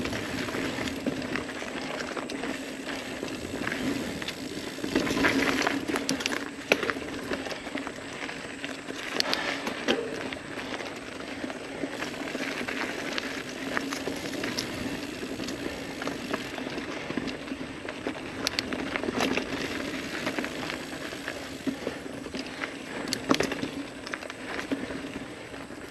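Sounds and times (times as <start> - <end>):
bike clicking and rattling: 0.0 - 25.9
bike tyres rolling on dirt trail: 0.0 - 25.9.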